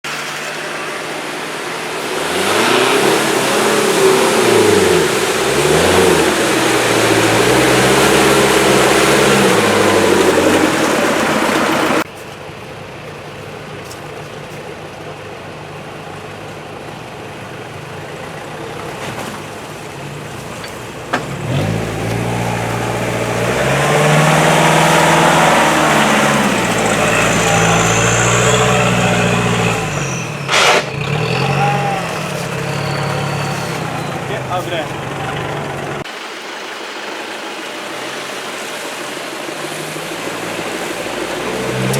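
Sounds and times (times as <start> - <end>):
off-road vehicle engine revving: 0.0 - 12.1, 15.6 - 41.9.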